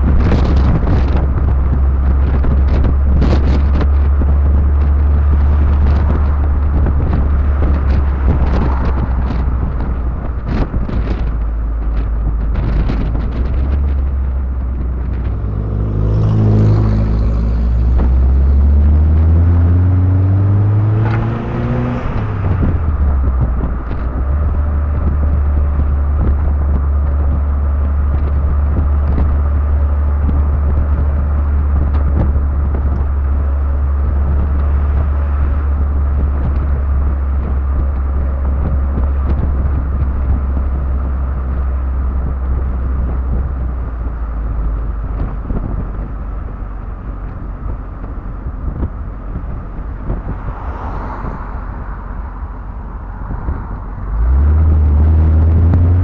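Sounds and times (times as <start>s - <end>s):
car engine accelerating: 0.0s - 56.0s
wind rumble on microphone: 0.0s - 56.0s.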